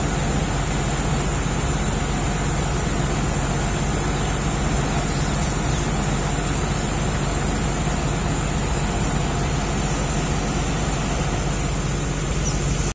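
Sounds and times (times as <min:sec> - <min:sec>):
heavy diesel engines running: 0:00.0 - 0:12.9
steady hiss: 0:00.0 - 0:12.9.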